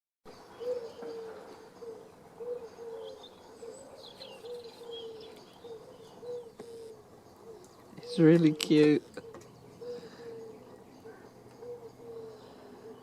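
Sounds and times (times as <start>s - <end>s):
small birds chirping: 0.3s - 13.0s
pigeon cooing: 0.6s - 13.0s.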